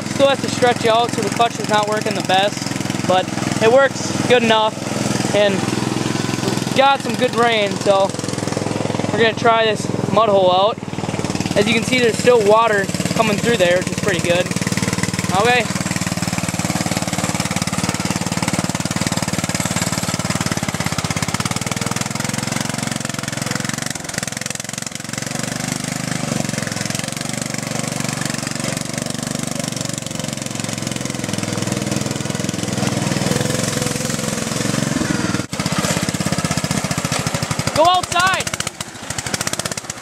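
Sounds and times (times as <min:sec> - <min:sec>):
riding mower engine running: 0:00.0 - 0:40.0.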